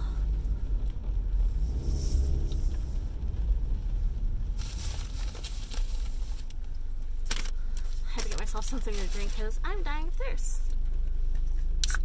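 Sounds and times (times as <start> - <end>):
car engine rumble and road noise: 0.0 - 12.0.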